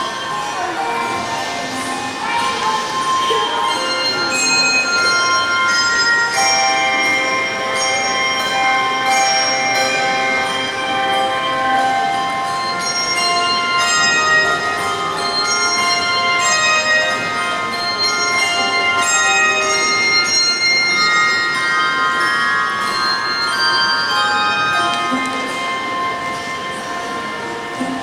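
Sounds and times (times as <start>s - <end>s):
handbell choir playing chords: 0.0s - 28.0s.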